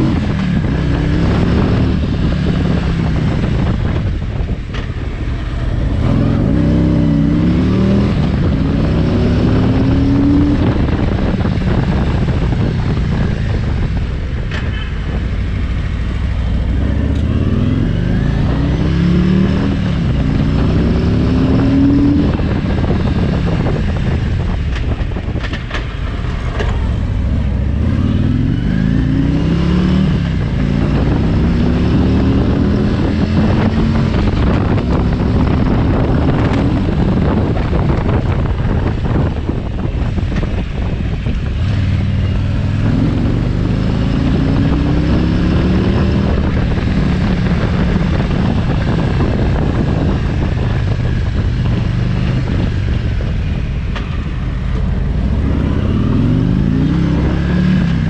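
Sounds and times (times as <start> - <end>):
motorcycle engine accelerating: 0.0 - 58.0
road noise: 0.0 - 58.0.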